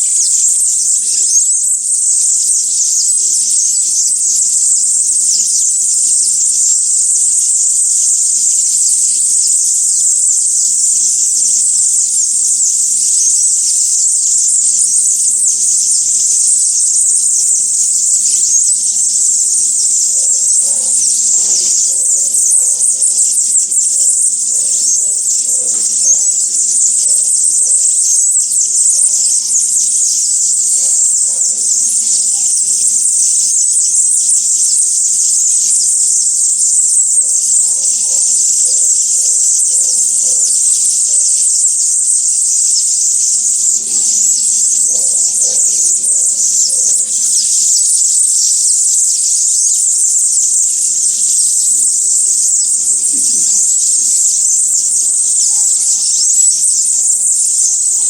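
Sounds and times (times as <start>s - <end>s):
faint low bird calls: 0.0s - 58.0s.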